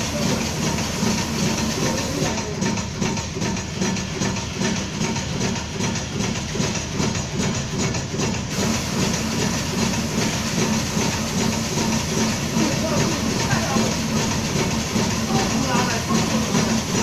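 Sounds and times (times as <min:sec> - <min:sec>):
machine rapid mechanical clatter: 0:00.0 - 0:17.0.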